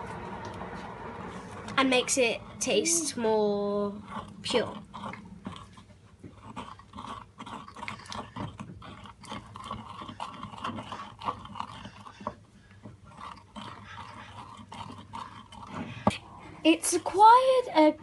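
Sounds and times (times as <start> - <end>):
pestle grinding in mortar: 0.0 - 17.2.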